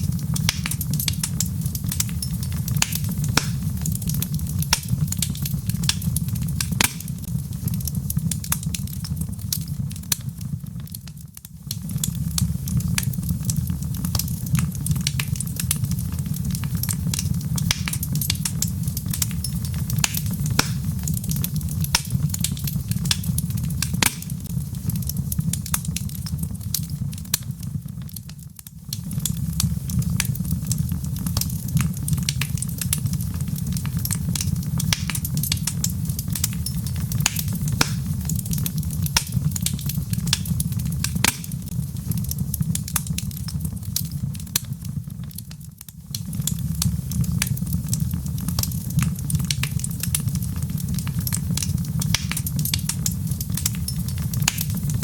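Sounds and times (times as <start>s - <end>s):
logs crackling in a fireplace: 0.0s - 55.0s.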